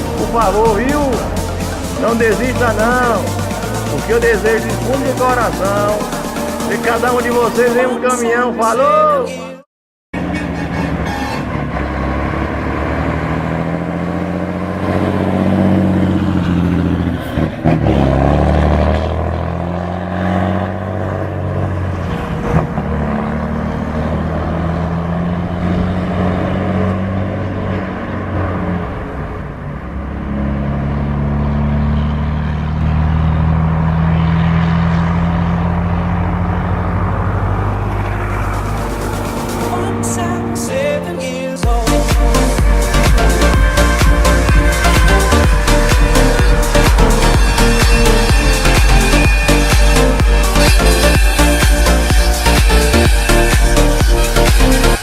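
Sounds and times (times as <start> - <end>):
truck diesel engine running: 0.0 - 8.4, 10.2 - 40.7, 41.6 - 55.0.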